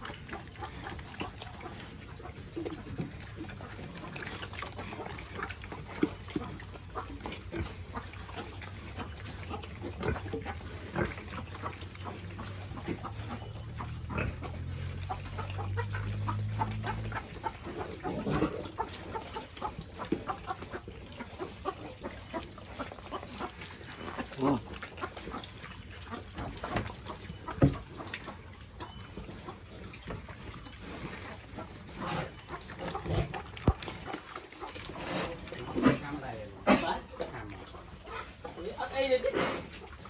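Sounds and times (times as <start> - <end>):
pig grunting: 0.0 - 28.2, 29.4 - 40.0
pigs chewing and slurping: 0.0 - 40.0.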